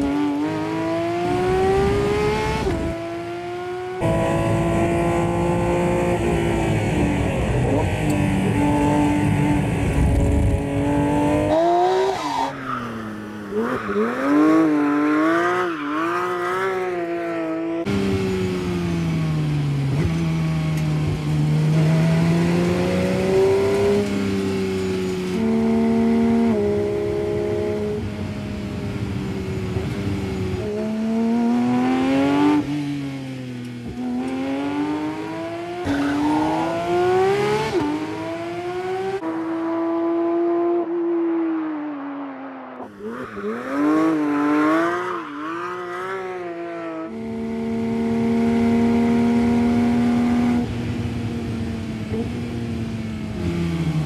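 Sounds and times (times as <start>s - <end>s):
car engine revving through gears: 0.0s - 12.8s, 13.5s - 28.2s, 29.7s - 41.1s, 43.0s - 51.0s.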